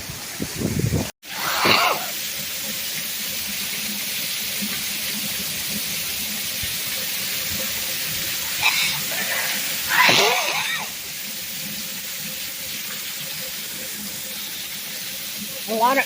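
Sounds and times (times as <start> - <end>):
heavy rain downpour hiss: 0.0 - 16.0.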